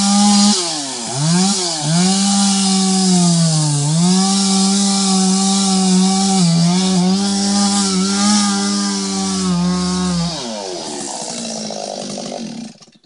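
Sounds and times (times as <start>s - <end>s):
chainsaw cutting at high revs: 0.0s - 13.0s
chainsaw idling: 0.0s - 13.0s.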